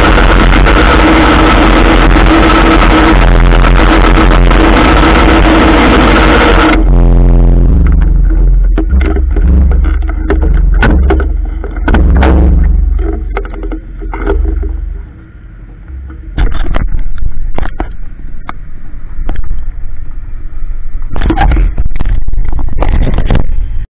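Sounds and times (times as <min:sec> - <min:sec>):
motorcycle engine rumbling: 0:00.0 - 0:23.8.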